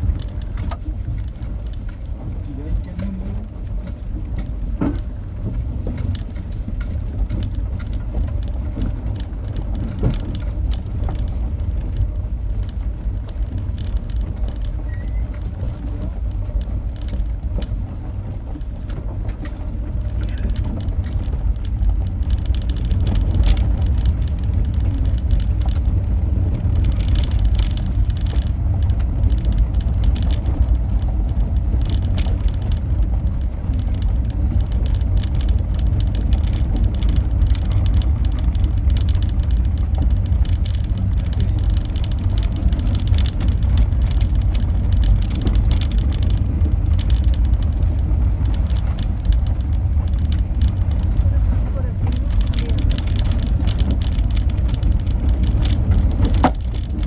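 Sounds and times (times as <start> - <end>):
engine and tyres rumbling: 0.0 - 57.0
gravel clicking and rattling: 0.0 - 57.0.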